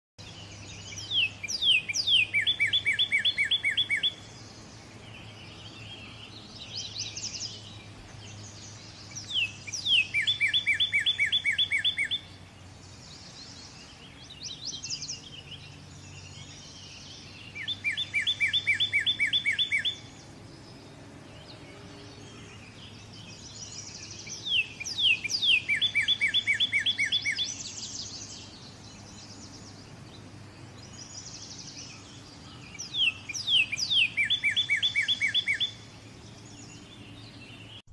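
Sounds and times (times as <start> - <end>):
soft bird chirps: 0.2 - 37.9.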